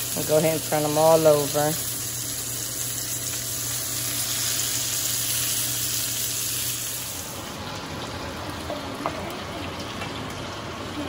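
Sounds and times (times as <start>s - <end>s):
meat sizzling in frying pan: 0.0s - 11.0s.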